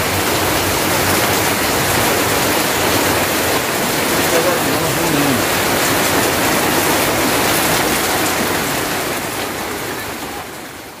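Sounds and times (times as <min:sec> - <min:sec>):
heavy rain on leaves and ground: 0:00.0 - 0:11.0.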